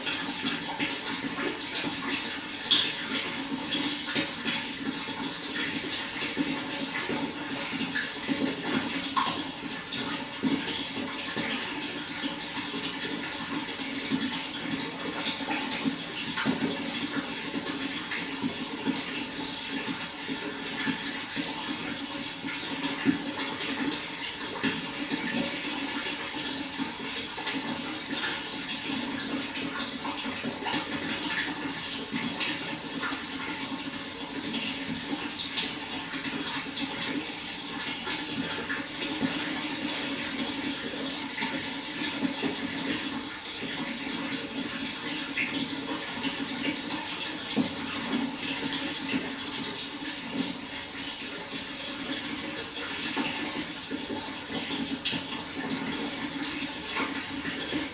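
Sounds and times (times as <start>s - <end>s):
water flowing with splashes: 0.0s - 57.9s.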